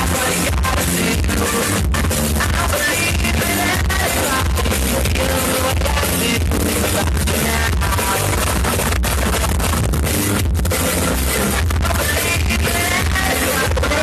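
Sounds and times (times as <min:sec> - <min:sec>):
person singing: 0:00.0 - 0:09.4, 0:11.1 - 0:14.0
loud dance music with heavy bass: 0:00.0 - 0:14.0.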